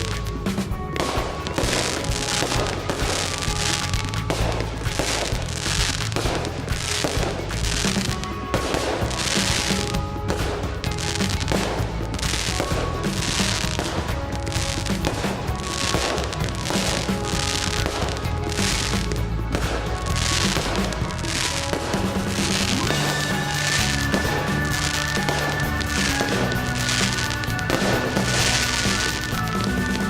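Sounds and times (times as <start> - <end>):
fireworks crackling and hissing: 0.0 - 30.0.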